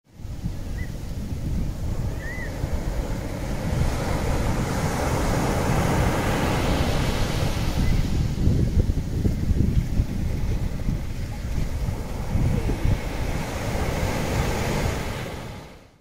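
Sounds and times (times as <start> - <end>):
wind buffeting the microphone: 0.1 - 15.8
surf breaking on a beach: 0.1 - 16.0.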